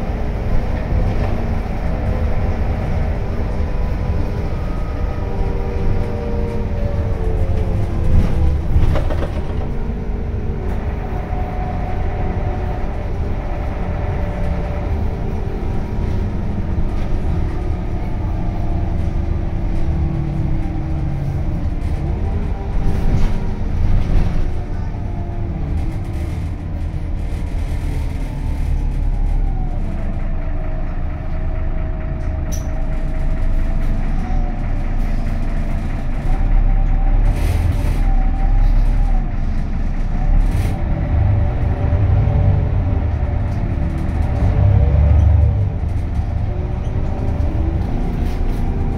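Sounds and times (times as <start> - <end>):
bus engine and road rumble: 0.0 - 48.9
bus jolts: 0.0 - 48.9.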